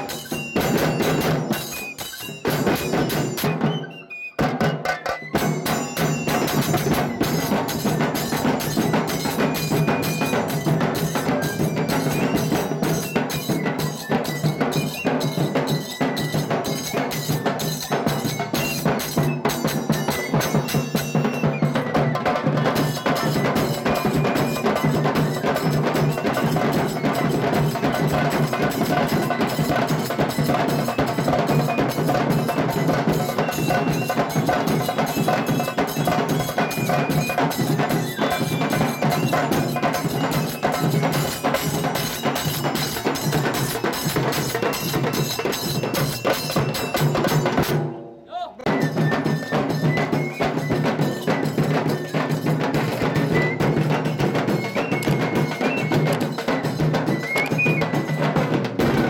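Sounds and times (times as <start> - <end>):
drum band playing fast rhythm: 0.0 - 59.0
flute melody: 0.0 - 59.0.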